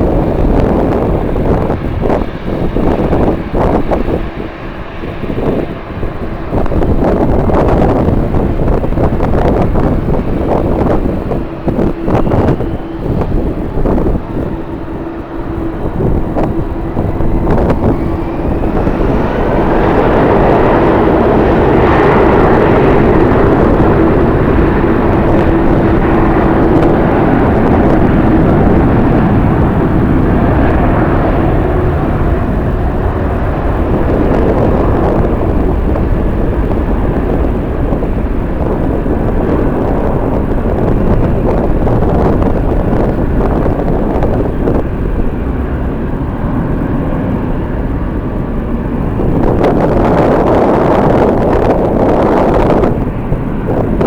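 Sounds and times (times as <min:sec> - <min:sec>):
jet airliner passing: 0:00.0 - 0:54.0
steady hum: 0:00.0 - 0:54.0
wind on microphone: 0:00.0 - 0:54.0.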